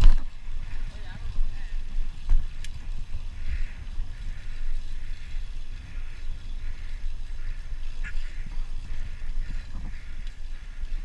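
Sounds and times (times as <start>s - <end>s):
wind buffeting microphone: 0.0s - 11.0s
tyre and trail hiss: 0.1s - 11.0s.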